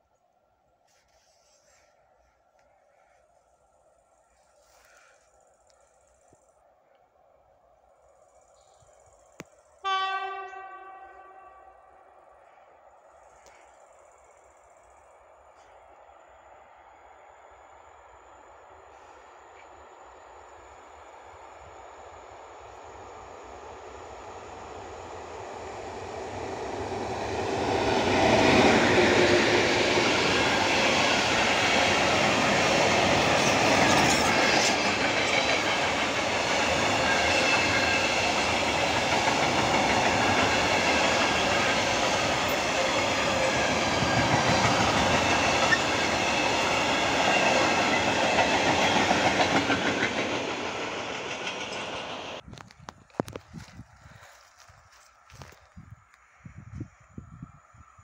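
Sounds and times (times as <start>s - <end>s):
freight train passing: 2.6s - 58.0s.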